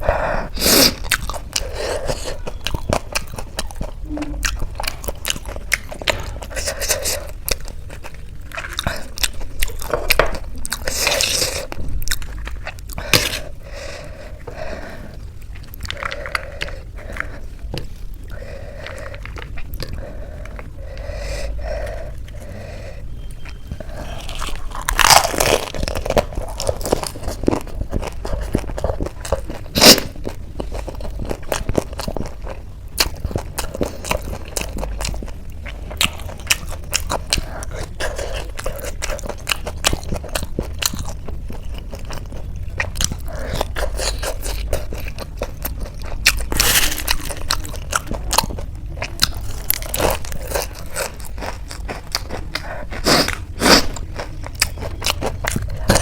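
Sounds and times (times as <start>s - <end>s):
crunching and chewing crisp snacks: 0.0s - 56.0s.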